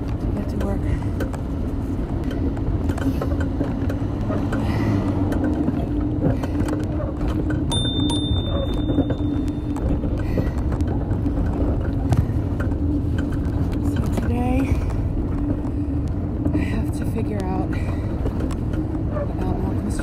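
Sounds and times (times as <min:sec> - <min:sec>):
bicycle tyre and road noise: 0:00.0 - 0:20.0
bike rattling and knocking: 0:00.0 - 0:20.0
steady low hum: 0:00.0 - 0:20.0
wind rumbling on microphone: 0:00.0 - 0:20.0.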